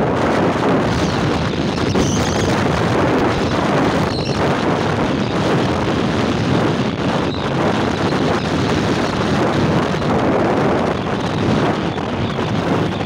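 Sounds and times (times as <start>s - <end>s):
vehicle and road noise: 0.0s - 13.0s
wind buffeting microphone: 0.0s - 13.0s.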